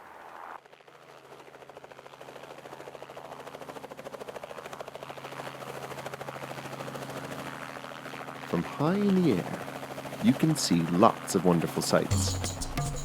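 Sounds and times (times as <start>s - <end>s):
helicopter rotor blades chopping: 1.0s - 13.0s.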